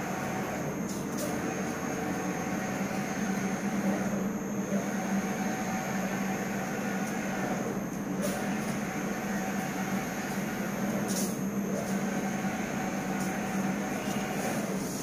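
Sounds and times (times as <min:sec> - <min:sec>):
printer mechanical hum with whine: 0:00.0 - 0:15.0.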